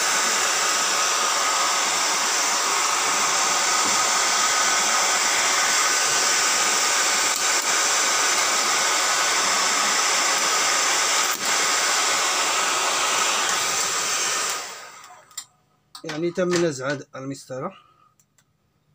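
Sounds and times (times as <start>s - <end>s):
hair dryer blowing: 0.0s - 15.4s.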